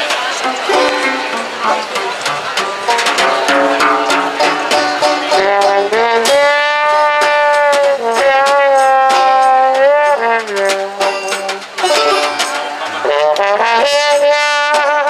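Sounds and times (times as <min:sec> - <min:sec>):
snare drum steady beat: 0:00.0 - 0:15.0
strummed banjo: 0:00.0 - 0:15.0
trombone: 0:00.0 - 0:15.0
upright bass: 0:00.0 - 0:15.0.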